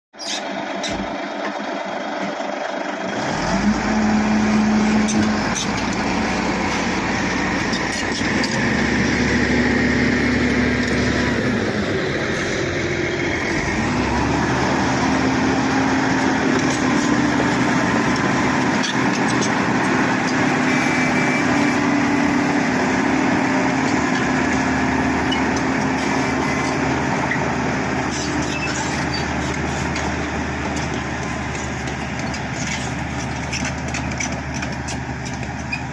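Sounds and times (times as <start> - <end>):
bulldozer diesel engine running: 0.2 - 35.9.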